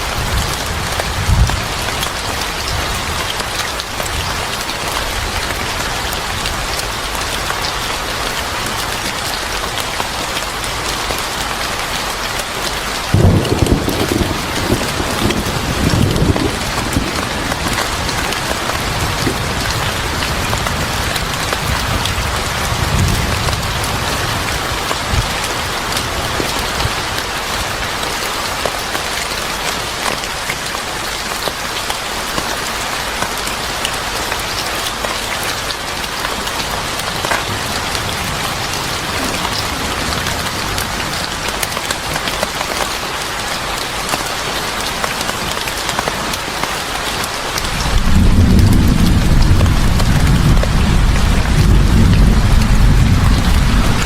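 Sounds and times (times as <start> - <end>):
heavy rain on a surface: 0.0 - 54.0.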